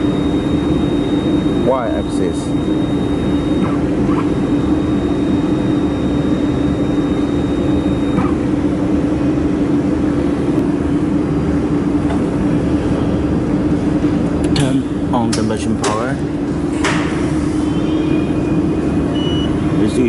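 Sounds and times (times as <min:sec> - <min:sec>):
welding machine fans whirring: 0:00.0 - 0:20.0.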